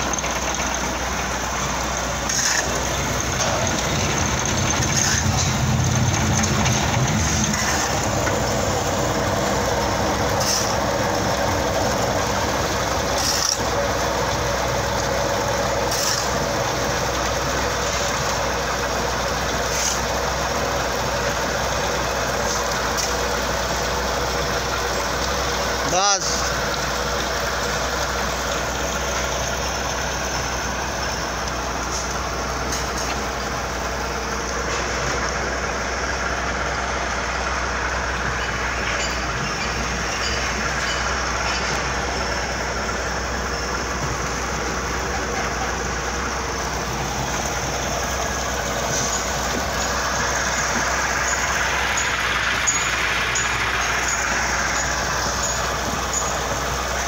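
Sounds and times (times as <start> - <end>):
concrete mixing machine droning: 0.0 - 57.0.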